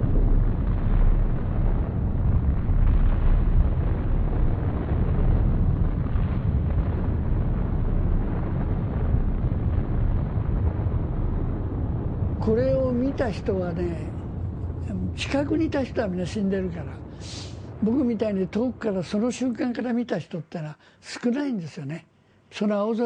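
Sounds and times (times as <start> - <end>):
deep explosion rumble: 0.0 - 19.9.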